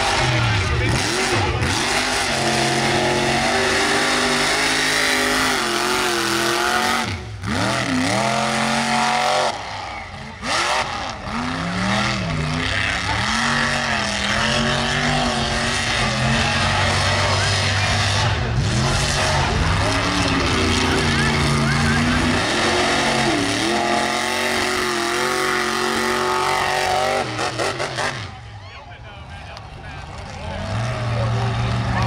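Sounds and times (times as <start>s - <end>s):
truck engine revving hard: 0.0s - 28.6s, 30.0s - 32.0s.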